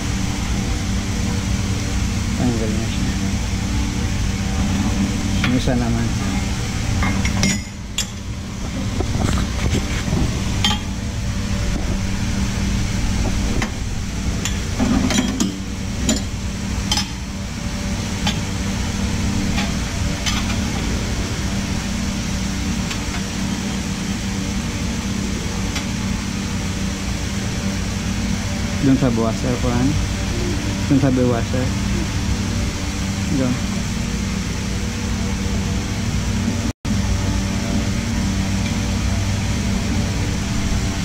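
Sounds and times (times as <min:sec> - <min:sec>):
low machine hum: 0:00.0 - 0:41.0.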